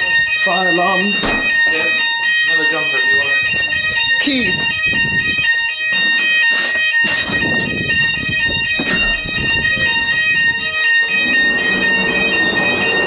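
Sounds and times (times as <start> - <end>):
fire alarm tones: 0.0 - 13.0
rustling and knocks of people: 1.1 - 2.4, 3.4 - 13.0.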